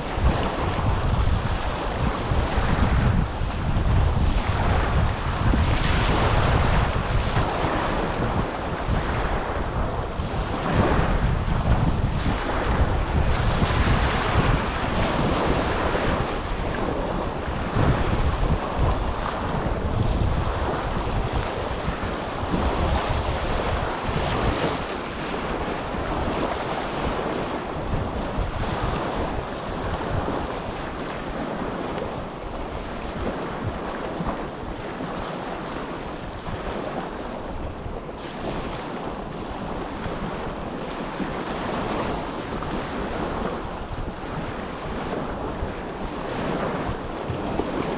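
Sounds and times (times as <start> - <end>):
small waves washing on shore: 0.0 - 47.9
wind buffeting microphone: 0.0 - 47.9.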